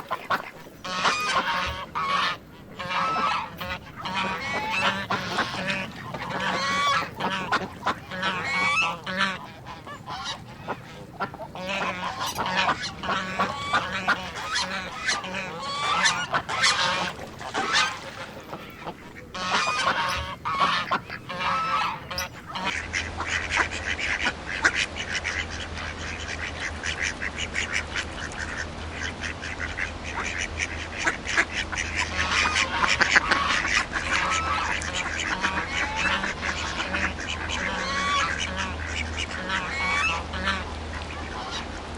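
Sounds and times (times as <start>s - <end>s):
chatter of many birds: 0.0s - 41.8s
geese and ducks honking and quacking: 0.0s - 41.9s
low steady hum: 0.0s - 41.9s.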